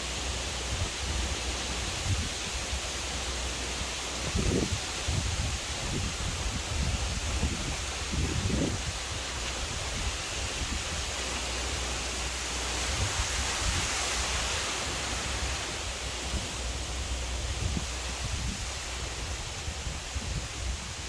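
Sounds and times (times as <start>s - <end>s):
strong wind buffeting microphone: 0.2s - 21.0s.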